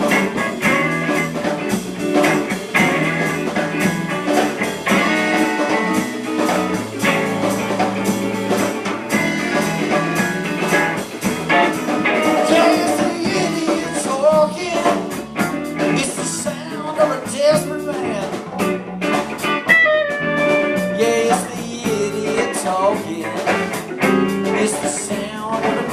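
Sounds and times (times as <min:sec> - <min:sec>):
bending lead guitar notes: 0:00.0 - 0:25.9
blues-rock band playing: 0:00.0 - 0:25.9.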